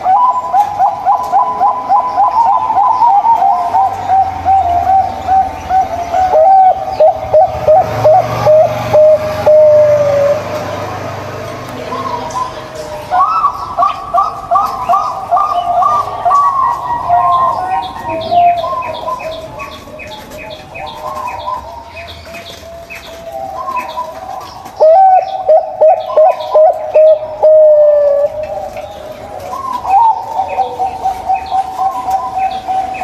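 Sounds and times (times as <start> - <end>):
doves cooing: 0.0 - 33.0.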